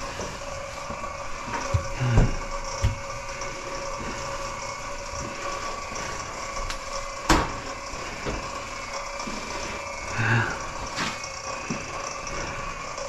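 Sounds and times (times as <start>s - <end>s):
drain-cleaning machine running: 0.0s - 13.0s.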